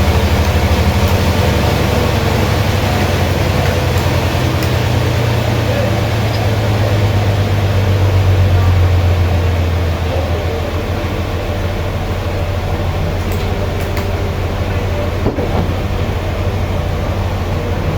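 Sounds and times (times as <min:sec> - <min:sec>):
sawmill machinery running: 0:00.0 - 0:17.9.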